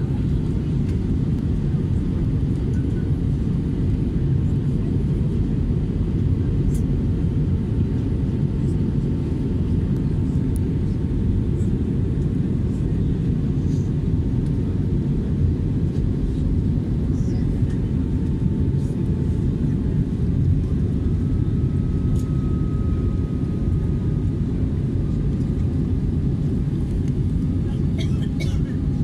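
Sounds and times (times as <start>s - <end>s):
airliner cabin engine roar: 0.0s - 29.0s.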